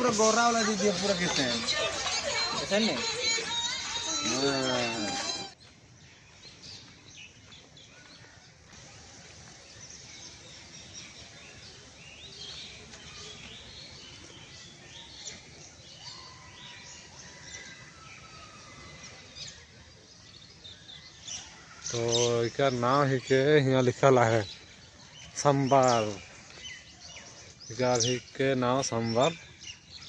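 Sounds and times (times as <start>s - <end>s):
birds chirping: 0.0s - 30.0s
outdoor background noise: 0.0s - 30.0s.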